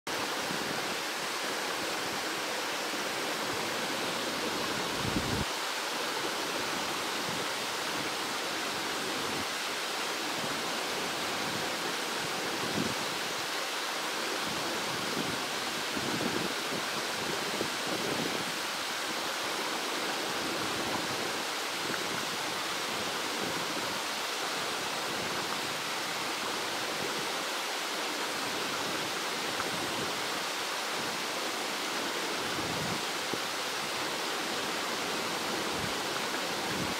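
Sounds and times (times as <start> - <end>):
small waterfall splashing: 0.1 - 36.9.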